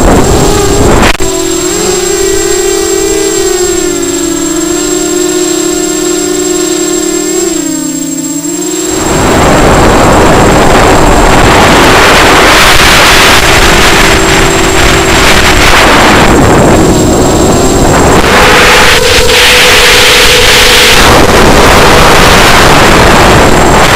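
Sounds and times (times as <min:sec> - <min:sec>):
wind rushing over microphone: 0:00.0 - 0:04.7, 0:08.4 - 0:23.9
quadcopter motors humming: 0:00.0 - 0:23.9.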